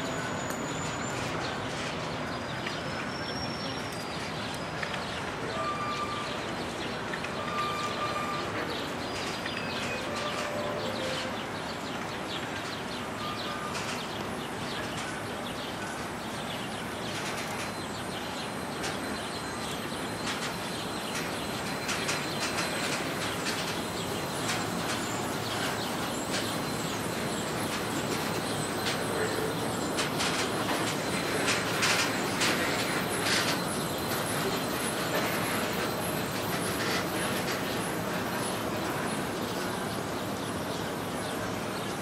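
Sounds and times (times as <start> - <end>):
monorail train rolling: 0.0 - 42.0
train clicks: 0.0 - 42.0.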